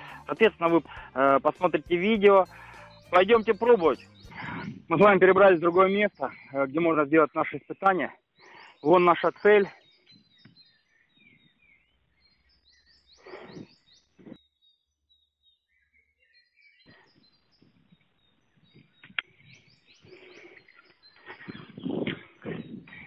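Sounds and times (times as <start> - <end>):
small birds chirping: 0.0 - 23.0
soft outdoor noise: 0.0 - 23.0.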